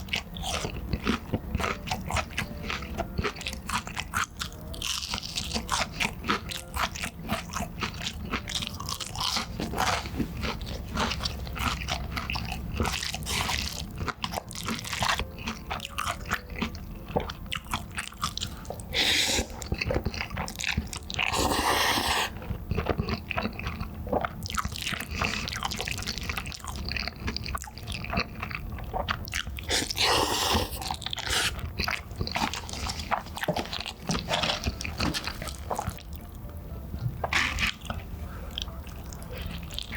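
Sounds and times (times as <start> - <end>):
biting and chewing pizza: 0.0 - 39.9.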